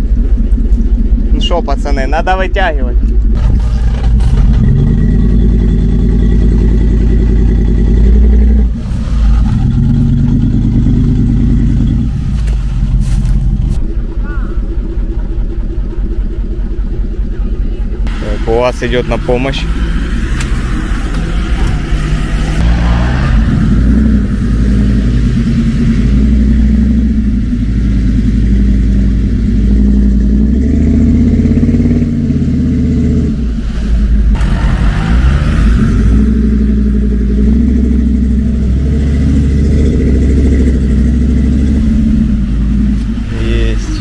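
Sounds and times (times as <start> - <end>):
engines revving hard: 3.3 - 13.8, 18.0 - 44.0.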